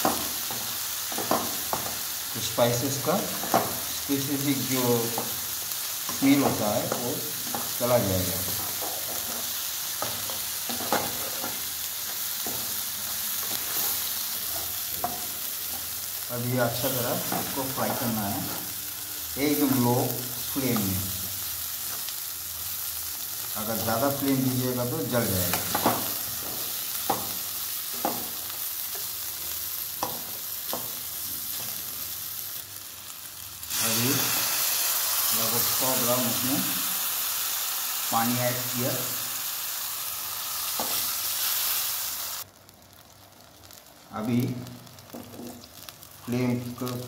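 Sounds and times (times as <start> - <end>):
paste sizzling in oil: 0.0 - 44.0.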